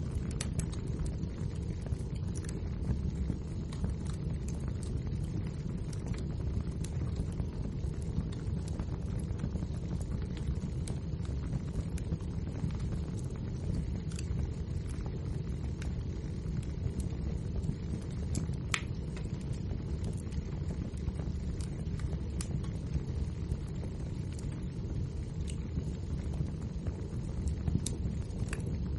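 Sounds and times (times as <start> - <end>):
logs crackling and popping: 0.0 - 28.9
low rumble of flames: 0.0 - 28.9.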